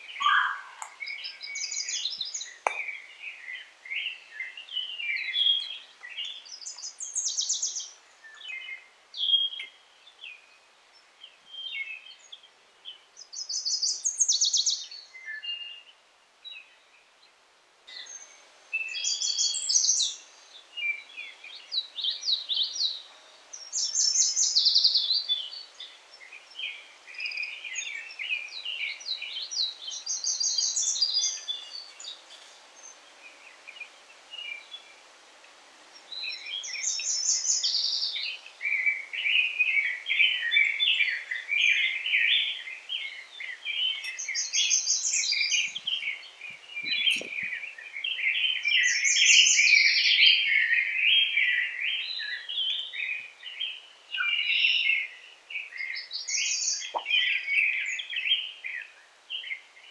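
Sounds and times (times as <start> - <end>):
breeze in trees: 0.0 - 59.9
songbirds singing: 0.0 - 59.9.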